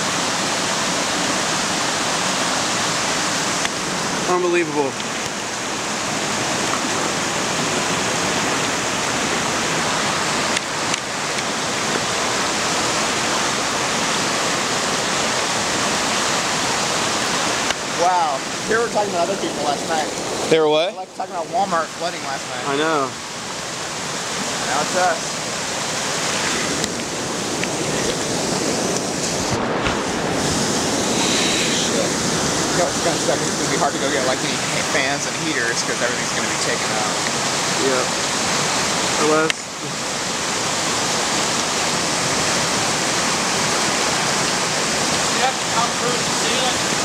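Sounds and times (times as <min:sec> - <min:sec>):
floodwater rushing: 0:00.0 - 0:47.0.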